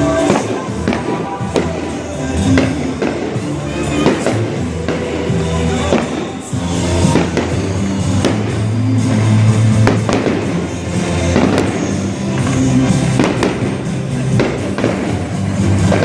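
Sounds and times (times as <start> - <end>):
fireworks bangs: 0.0 - 16.0
loud music with bass line: 0.0 - 16.0.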